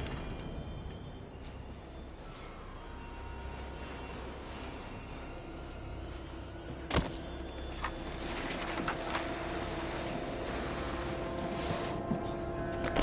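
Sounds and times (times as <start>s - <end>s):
low subway rumble: 0.1s - 13.0s.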